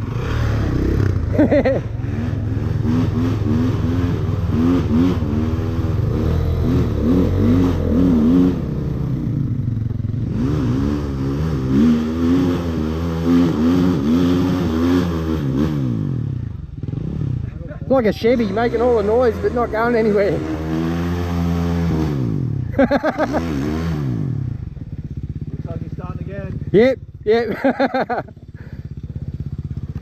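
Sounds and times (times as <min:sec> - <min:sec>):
dirt bike engine revving: 0:00.0 - 0:26.8.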